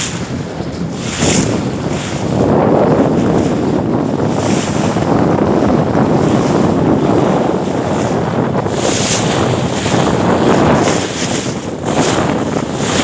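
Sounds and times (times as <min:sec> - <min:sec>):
waves washing against boat: 0:00.0 - 0:13.0
wind buffeting microphone: 0:00.0 - 0:13.0.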